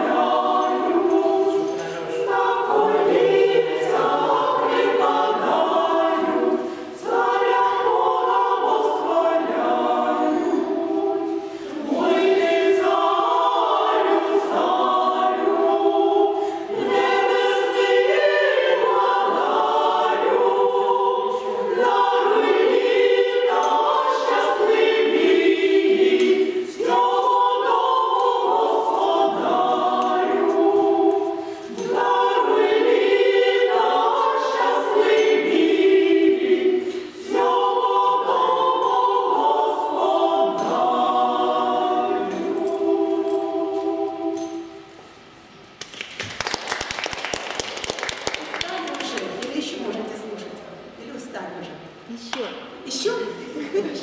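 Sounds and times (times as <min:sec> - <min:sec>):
women's choir singing a cappella: 0:00.0 - 0:45.7.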